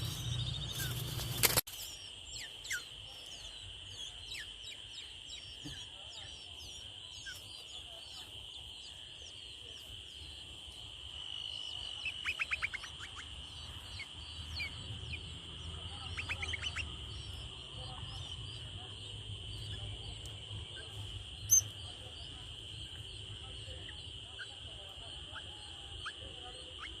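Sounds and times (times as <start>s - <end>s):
nestling birds chirping: 0.0s - 27.0s.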